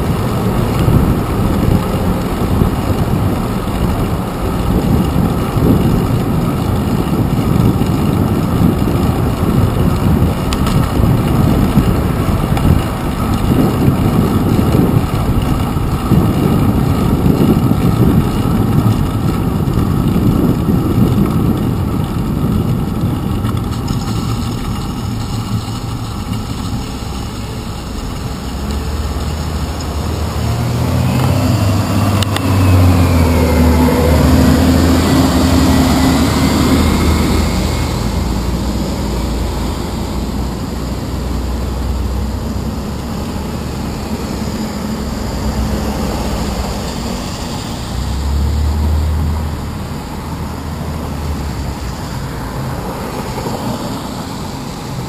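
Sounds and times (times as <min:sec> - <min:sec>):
bicycle on wet pavement: 0:00.0 - 0:55.0
bus engine hum: 0:00.0 - 0:55.0
wind buffeting microphone: 0:00.0 - 0:55.0.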